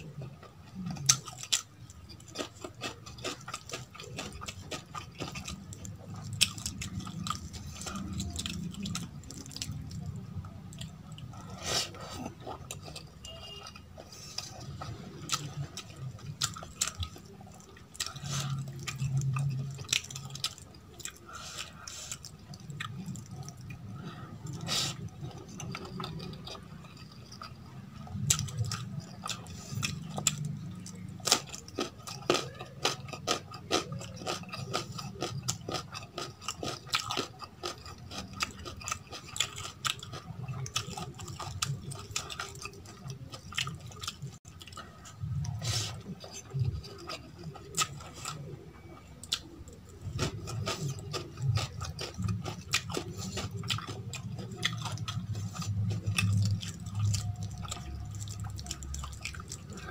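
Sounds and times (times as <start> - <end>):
chewing: 0.0 - 59.9.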